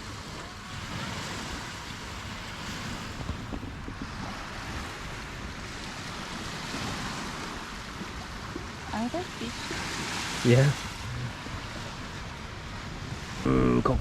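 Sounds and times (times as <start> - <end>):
sea surf washing on beach: 0.0 - 14.0
wind buffeting microphone: 0.0 - 14.0.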